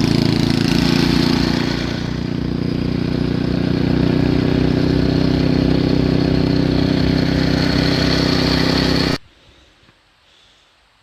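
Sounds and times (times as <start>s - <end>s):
small engine running: 0.0s - 9.2s.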